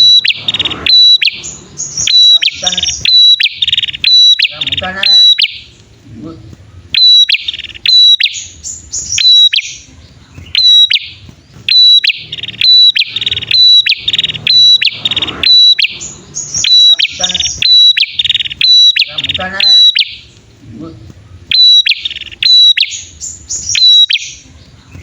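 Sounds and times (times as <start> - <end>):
birds calling in duet: 0.0 - 25.0
buzzy bird trills: 0.0 - 25.0.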